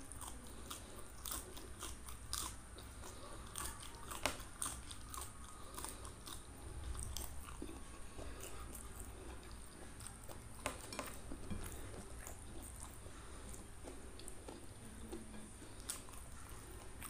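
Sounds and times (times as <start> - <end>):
crunchy chewing of raw pod: 0.0 - 17.0.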